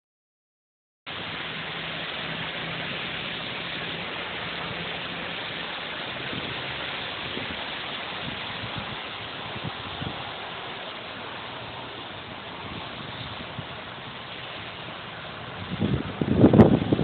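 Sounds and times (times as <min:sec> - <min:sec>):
rain on wet street: 0:01.1 - 0:17.0
wind: 0:01.1 - 0:17.0.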